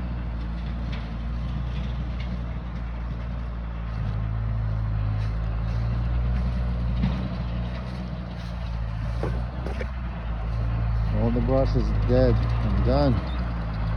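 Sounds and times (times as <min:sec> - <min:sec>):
skid steer engine running: 0:00.0 - 0:13.9.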